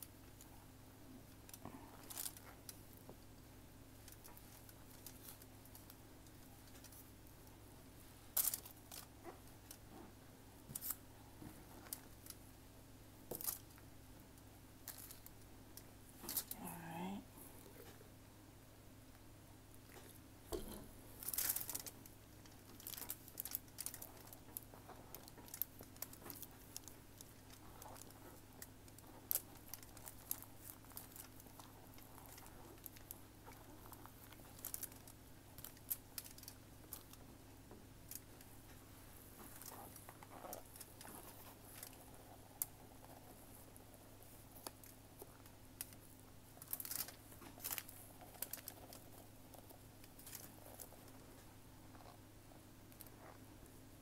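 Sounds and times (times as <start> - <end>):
plastic gloves crinkling: 1.2 - 12.5, 19.8 - 53.8.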